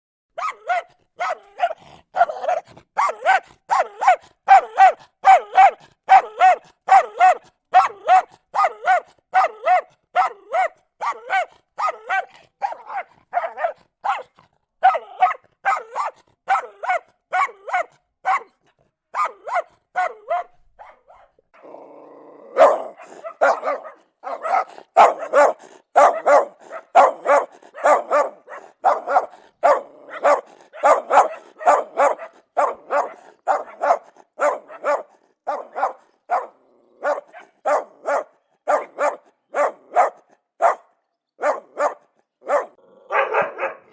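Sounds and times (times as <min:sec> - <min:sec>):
dog barking angrily: 0:00.4 - 0:43.9.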